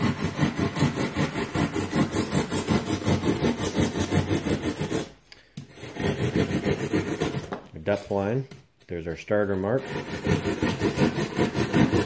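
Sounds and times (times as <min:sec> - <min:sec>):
hand saw cutting foam: 0:00.0 - 0:08.4, 0:09.5 - 0:12.0.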